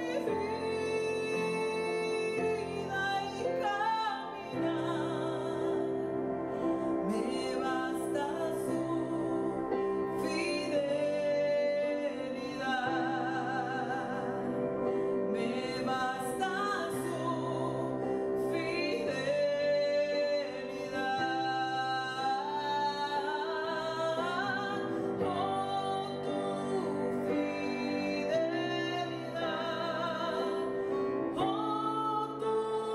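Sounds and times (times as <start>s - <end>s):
woman singing gospel song: 0.0s - 32.9s.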